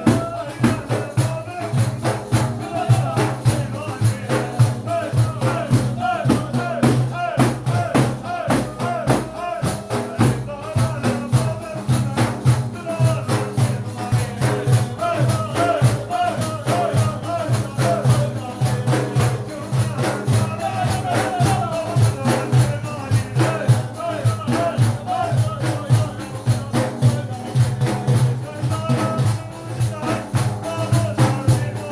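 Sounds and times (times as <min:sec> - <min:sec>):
frame drums with jingles: 0:00.0 - 0:31.9
voices chanting: 0:00.0 - 0:31.9.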